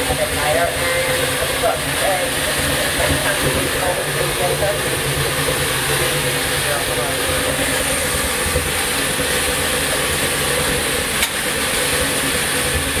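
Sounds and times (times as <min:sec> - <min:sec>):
low uneven rumble: 0:00.0 - 0:13.0
steam hissing: 0:00.0 - 0:13.0.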